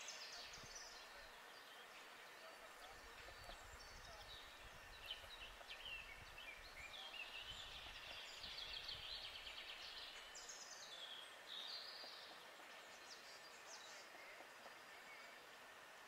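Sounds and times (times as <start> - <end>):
songbirds trilling and whistling: 0.0 - 16.0.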